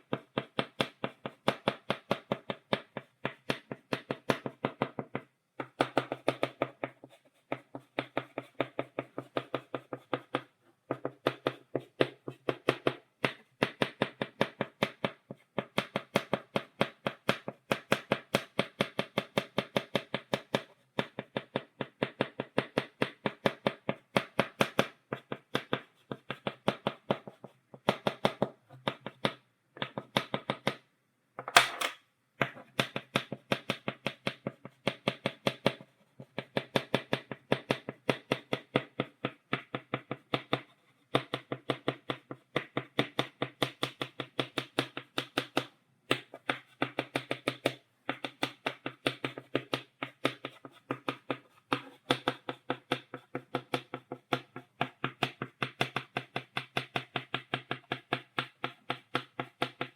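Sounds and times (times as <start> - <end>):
chalk tapping on blackboard: 0.0 - 30.8, 31.5 - 59.9.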